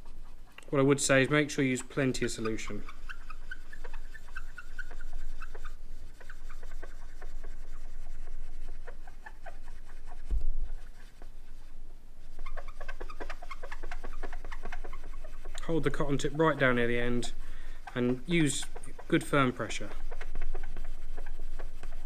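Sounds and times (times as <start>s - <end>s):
scratchy rubbing on metal: 0.0s - 22.0s.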